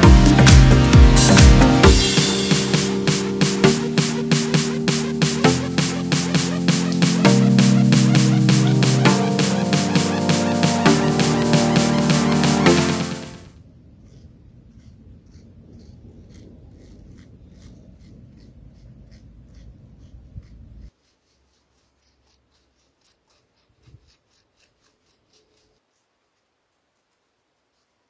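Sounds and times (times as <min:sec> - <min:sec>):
stick scratching sandy soil: 0:00.0 - 0:28.0.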